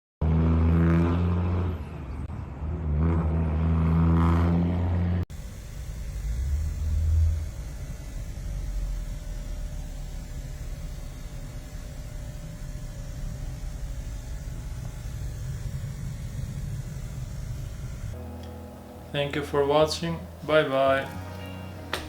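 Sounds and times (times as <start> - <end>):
low road rumble: 0.2 - 22.0
vehicle engine droning: 0.2 - 22.0.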